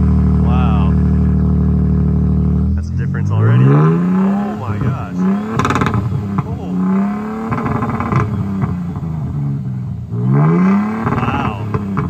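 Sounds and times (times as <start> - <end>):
deep engine exhaust revving: 0.0 - 12.0.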